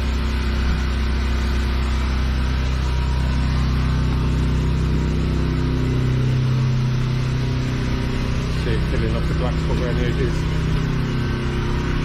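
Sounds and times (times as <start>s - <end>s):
pressure washer engine humming: 0.0s - 12.0s.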